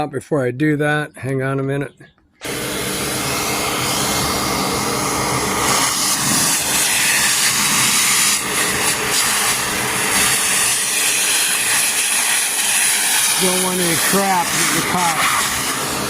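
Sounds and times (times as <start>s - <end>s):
vacuum cleaner running: 2.4s - 16.0s.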